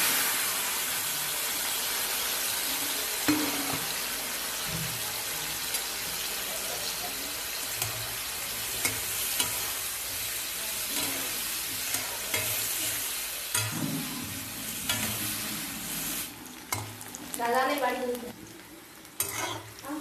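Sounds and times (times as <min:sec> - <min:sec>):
mushrooms sizzling in oil: 0:00.0 - 0:20.0.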